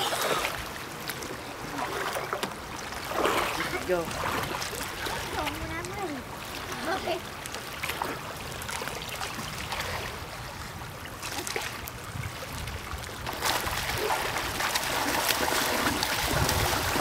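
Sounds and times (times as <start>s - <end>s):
sea water splashing and lapping: 0.0s - 17.0s.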